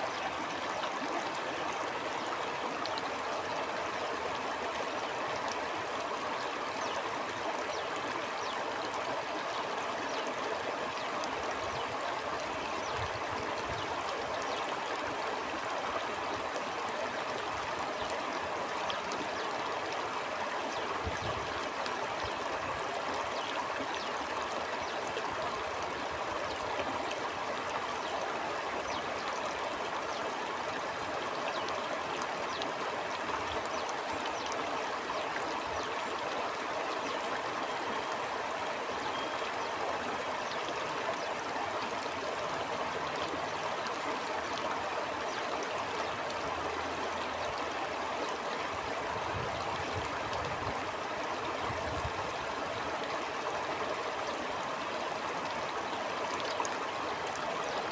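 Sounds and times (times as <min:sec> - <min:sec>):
stream burbling over stones: 0:00.0 - 0:57.9.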